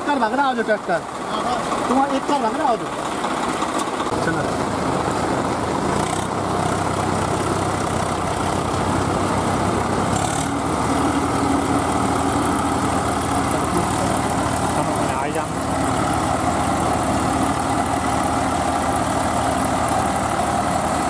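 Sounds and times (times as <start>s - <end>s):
diesel tractor engines under load: 0.0s - 21.0s.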